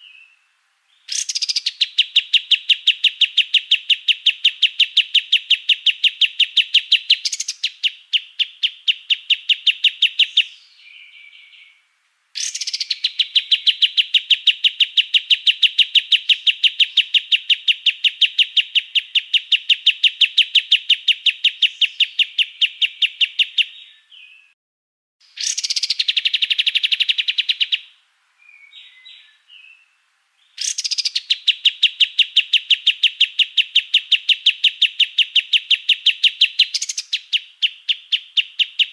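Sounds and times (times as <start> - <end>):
songbird rapid harsh song: 0.0 - 24.6, 25.2 - 38.9.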